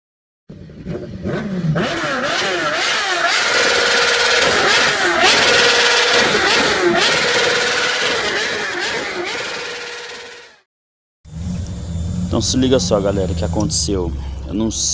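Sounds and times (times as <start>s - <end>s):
motorcycle engine revving: 0.5s - 10.7s, 11.3s - 14.9s.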